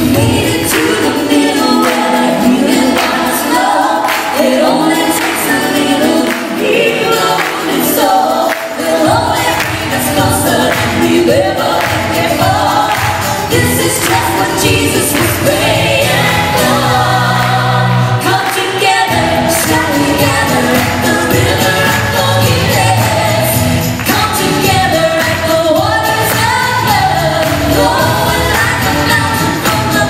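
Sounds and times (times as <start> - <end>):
live band playing: 0.0 - 30.0
women's vocal group singing: 0.0 - 30.0.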